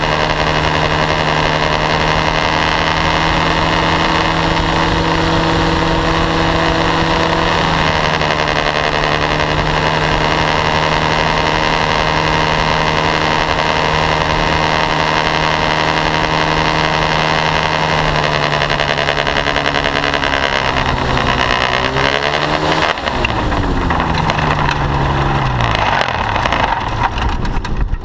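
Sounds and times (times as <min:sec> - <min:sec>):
paramotor engine and propeller: 0:00.0 - 0:28.0.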